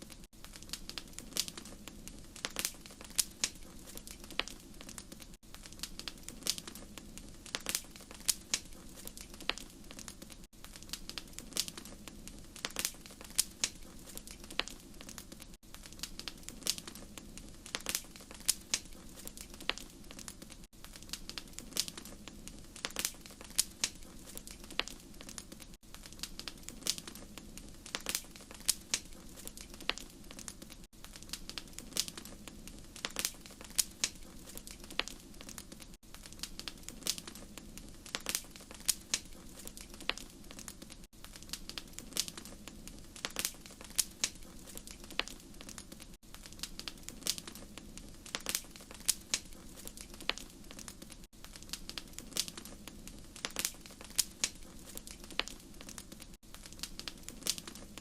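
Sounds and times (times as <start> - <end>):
wood fire pops and snaps: 0.0 - 58.0
low rumble of flame: 0.1 - 58.0.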